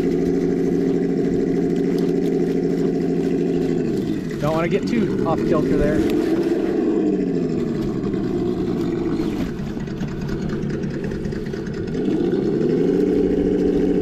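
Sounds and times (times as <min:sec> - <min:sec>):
simulated engine sound: 0:00.0 - 0:14.0.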